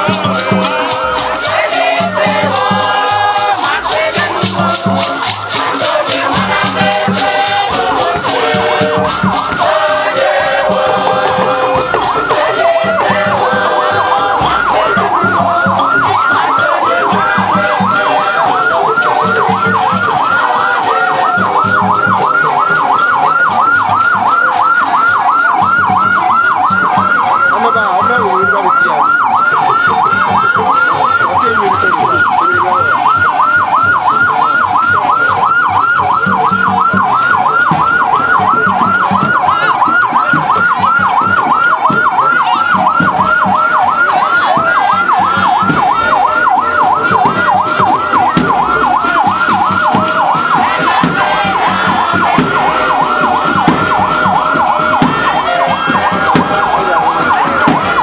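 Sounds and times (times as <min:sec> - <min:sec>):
ambulance siren yelping: 0:00.0 - 0:58.0.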